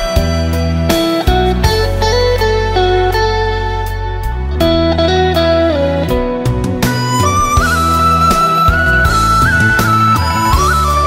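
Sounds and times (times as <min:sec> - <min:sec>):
pop song backing music: 0:00.0 - 0:11.0.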